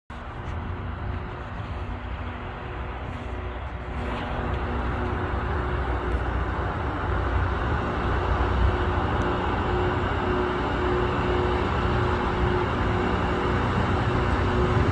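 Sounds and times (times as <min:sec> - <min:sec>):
low engine rumble: 0:00.1 - 0:14.9.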